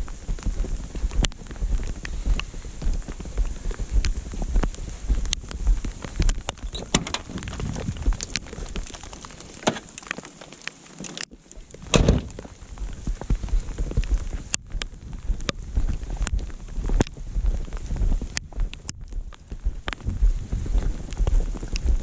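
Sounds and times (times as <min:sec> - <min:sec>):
wind buffeting microphone: 0:00.0 - 0:09.7, 0:11.5 - 0:22.0
campfire crackling and popping: 0:00.0 - 0:22.0.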